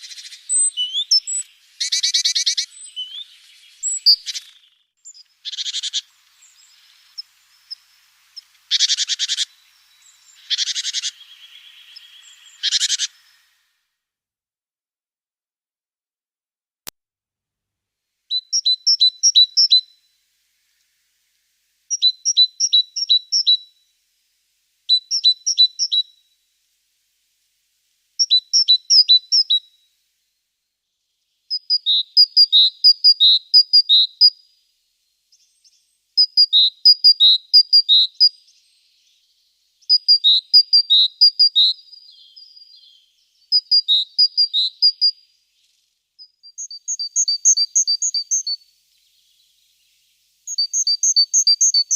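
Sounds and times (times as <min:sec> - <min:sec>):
songbird singing: 0:00.0 - 0:13.8, 0:18.3 - 0:51.9.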